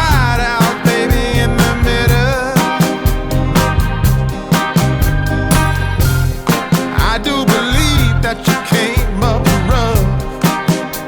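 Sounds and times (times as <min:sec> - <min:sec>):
soul funk background music: 0:00.0 - 0:11.0.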